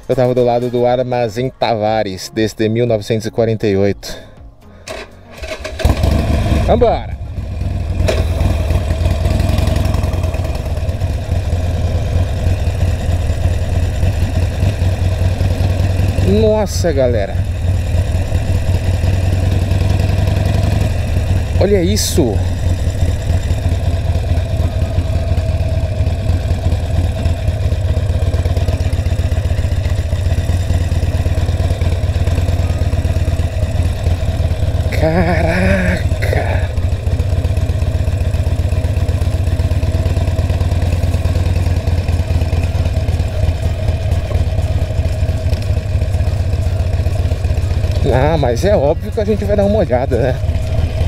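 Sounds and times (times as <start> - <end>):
motorcycle engine rumbling: 4.0 - 51.0.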